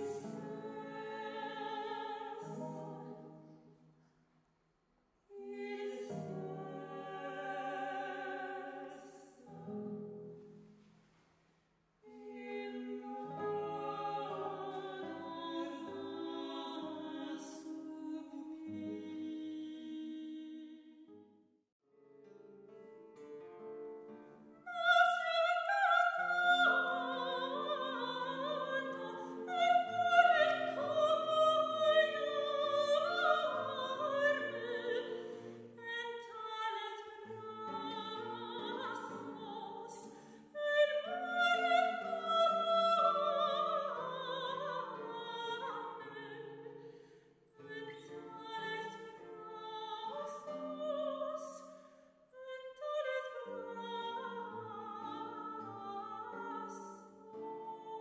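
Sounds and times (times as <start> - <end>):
operatic soprano singing: 0.0 - 3.3, 5.3 - 10.0, 12.1 - 21.0, 24.7 - 46.8, 47.6 - 51.7, 52.4 - 58.0
classical guitar playing: 0.0 - 4.0, 5.6 - 11.1, 12.2 - 21.3, 21.9 - 51.8, 52.4 - 58.0.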